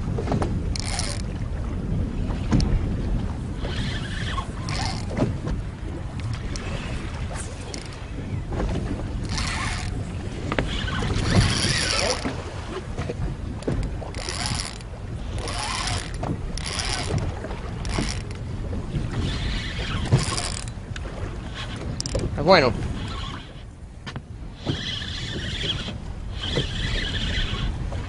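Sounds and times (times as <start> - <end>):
wind and water rumble: 0.0 - 28.0
spinning reel whirring: 0.7 - 1.4, 3.5 - 5.3, 6.0 - 12.4, 13.6 - 23.7, 24.6 - 28.0.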